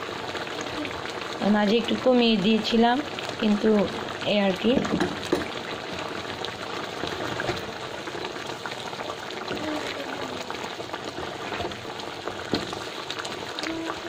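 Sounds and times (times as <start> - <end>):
thick sauce bubbling in a pan: 0.0 - 14.0.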